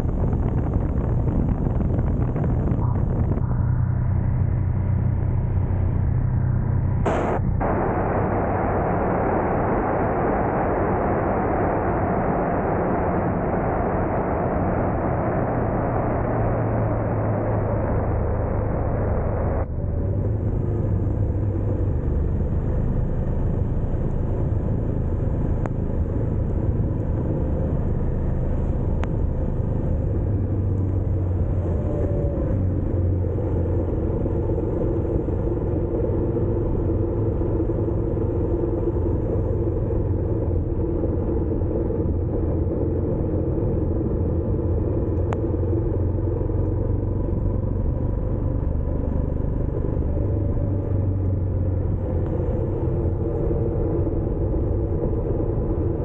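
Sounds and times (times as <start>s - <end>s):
motorcycle engine drone: 0.0s - 56.0s
wind noise on microphone: 0.0s - 56.0s.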